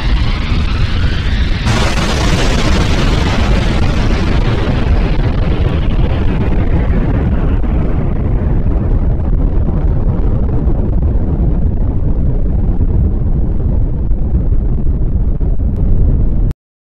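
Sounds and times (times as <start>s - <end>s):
explosion rumble: 0.0s - 16.5s.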